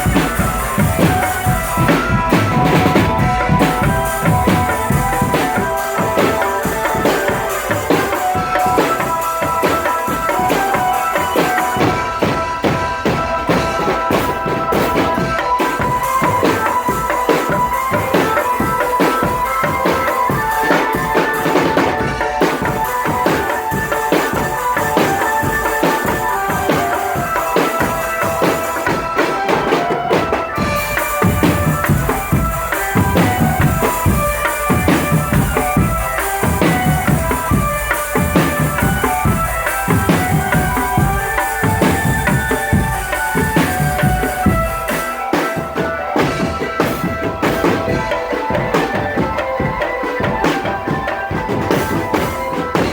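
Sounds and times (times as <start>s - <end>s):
bass and snare drums: 0.0s - 45.5s
marching band melody: 0.0s - 52.9s.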